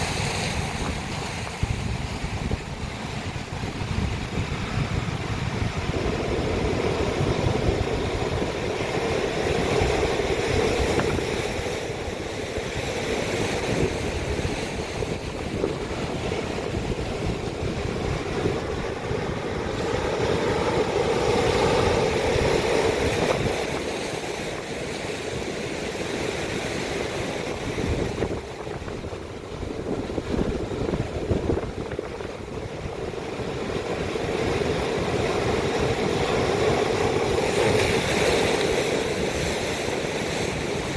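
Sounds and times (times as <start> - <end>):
waves breaking against rock: 0.0 - 40.9
wind rumbling on microphone: 0.0 - 40.9.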